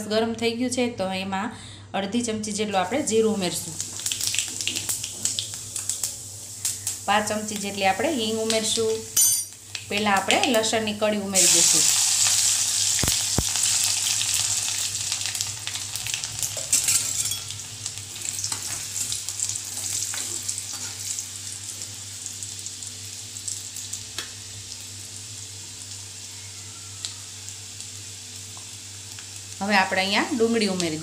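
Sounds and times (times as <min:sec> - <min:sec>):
garlic sizzling in hot oil: 0:02.8 - 0:31.0.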